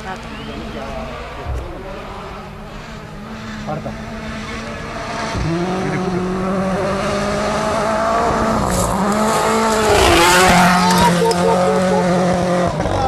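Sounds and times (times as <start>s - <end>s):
rally car engine passing by: 0.0s - 13.0s.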